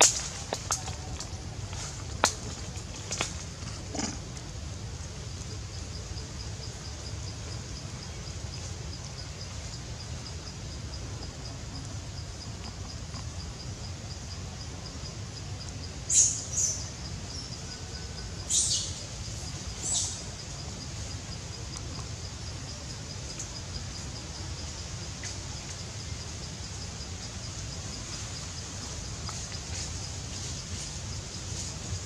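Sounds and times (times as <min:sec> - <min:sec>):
insects chirping: 0:00.0 - 0:32.0
low outdoor rumble: 0:00.0 - 0:32.0.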